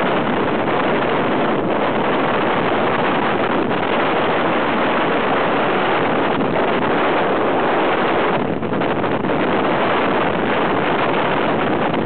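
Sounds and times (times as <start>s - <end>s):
light aircraft engine: 0.0s - 12.0s
wind on microphone: 0.0s - 12.0s.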